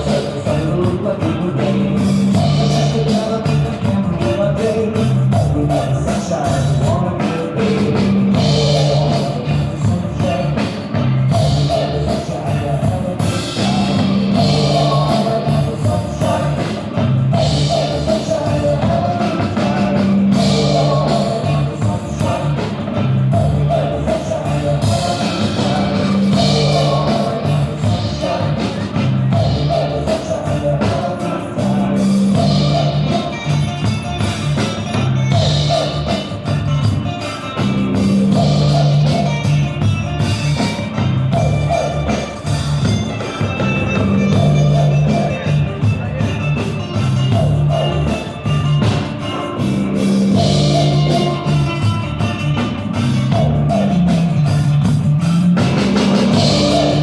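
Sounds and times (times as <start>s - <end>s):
person singing: 0.0s - 55.0s, 55.6s - 57.0s
bass line: 0.0s - 57.0s
drum kit beat: 0.0s - 57.0s
live rock band playing: 0.0s - 57.0s.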